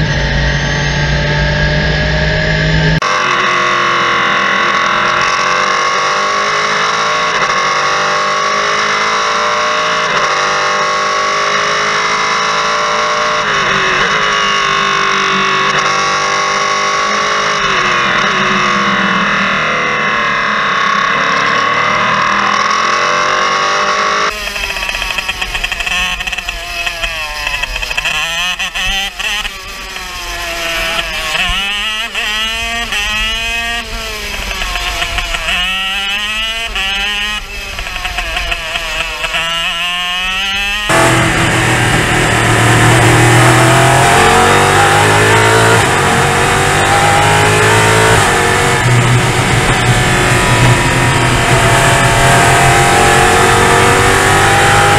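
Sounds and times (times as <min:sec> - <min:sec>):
race car engine: 0:00.0 - 0:54.9
race car engine at high revs: 0:00.0 - 0:54.9
racing kart engine rising and falling: 0:00.0 - 0:54.9.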